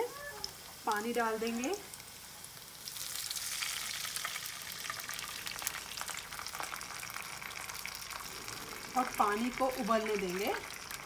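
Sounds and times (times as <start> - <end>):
hissing sizzle with crackles: 0.0 - 11.0.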